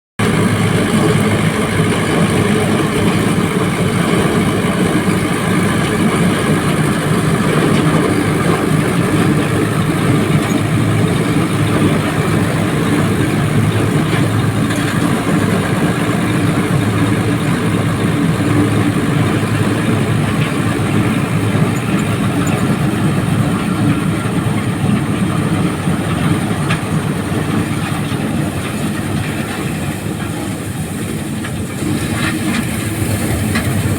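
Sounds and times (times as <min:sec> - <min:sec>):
thresher machine drone: 0:00.2 - 0:33.9.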